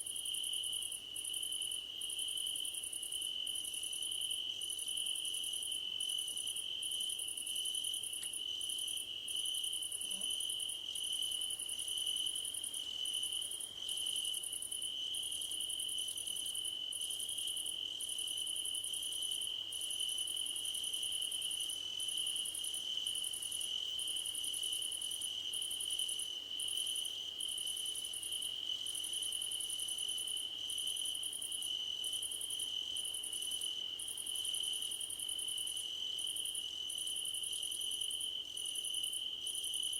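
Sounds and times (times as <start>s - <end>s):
crickets trilling: 0.2s - 39.9s.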